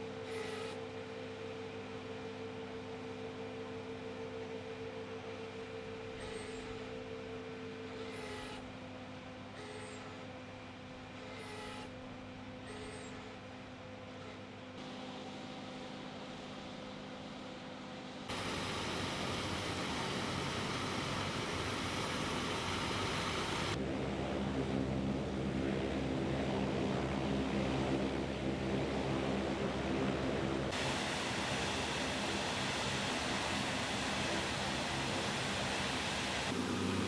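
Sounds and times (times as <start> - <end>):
turboprop engine drone: 0.0 - 37.0.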